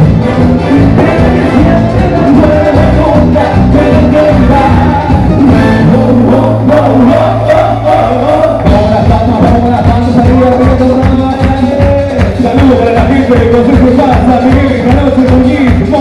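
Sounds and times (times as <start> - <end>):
latin dance band playing: 0.0 - 16.0
person singing: 0.0 - 16.0.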